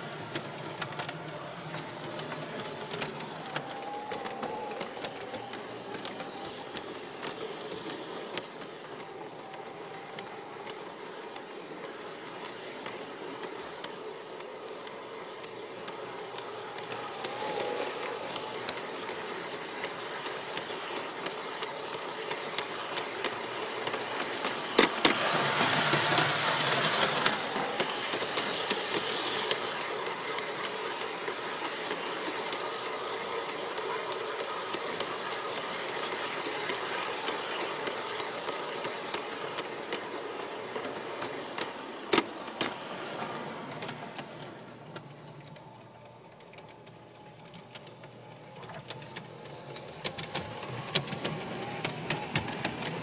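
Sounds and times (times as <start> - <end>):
clicking over rail joints: 0.0 - 53.0
model train wheels and motor: 0.0 - 53.0.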